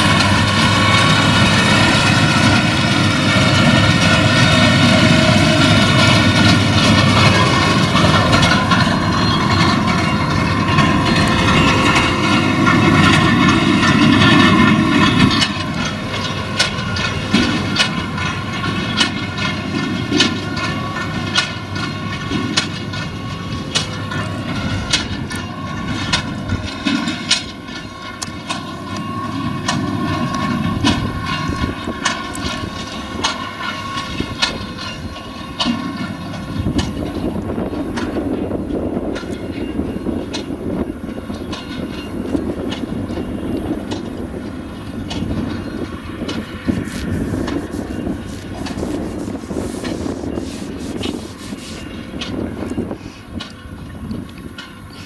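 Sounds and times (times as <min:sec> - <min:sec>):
tractor engine hum: 0:00.0 - 0:54.7.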